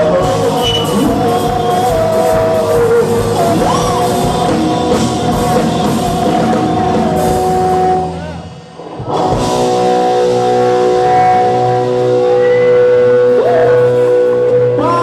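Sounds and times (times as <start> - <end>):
steady drum beat: 0.0 - 14.3
rock band playing: 0.0 - 15.0
singer holding long notes: 0.0 - 15.0.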